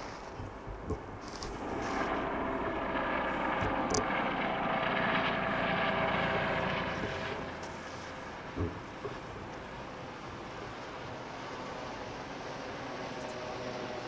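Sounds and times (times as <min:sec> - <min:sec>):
freight train engine and wheel rumble: 0:00.0 - 0:14.0.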